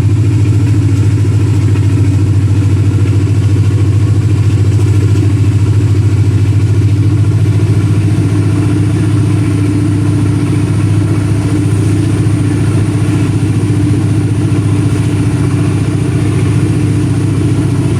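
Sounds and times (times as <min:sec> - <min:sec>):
diesel locomotive engine chugging: 0:00.0 - 0:17.9.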